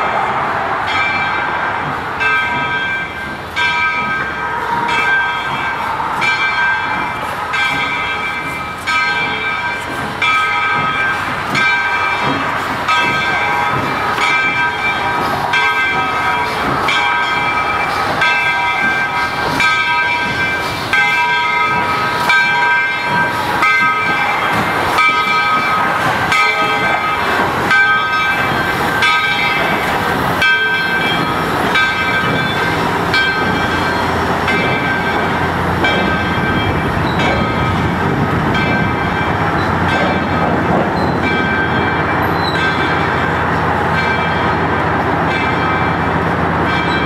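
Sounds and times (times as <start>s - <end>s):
steam locomotive bell ringing: 0.0s - 47.0s
steam locomotive hiss and rumble: 0.0s - 47.0s.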